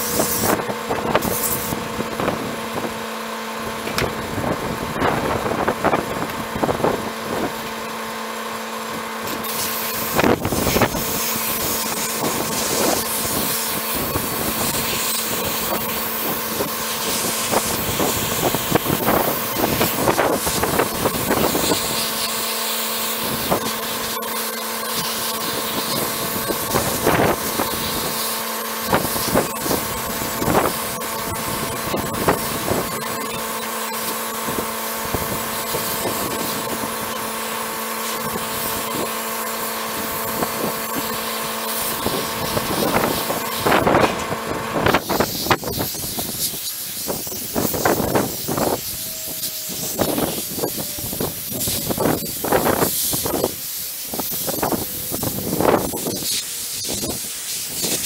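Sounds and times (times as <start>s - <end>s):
sandblasting hiss: 0.0s - 2.9s, 9.2s - 58.0s
motor hum: 0.0s - 58.0s.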